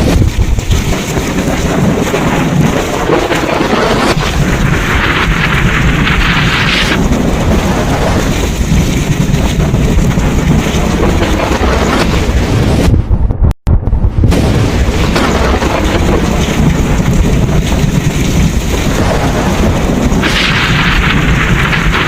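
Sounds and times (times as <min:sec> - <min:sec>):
rain hissing: 0:00.0 - 0:13.0, 0:14.2 - 0:22.0
rolling thunder: 0:00.0 - 0:22.0.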